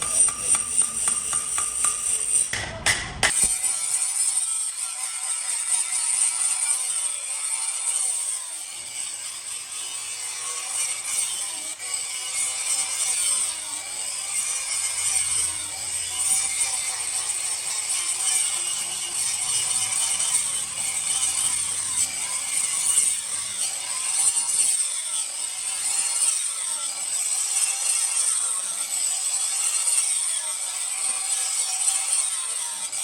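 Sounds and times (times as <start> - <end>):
steel blade being ground: 0.0 - 33.0.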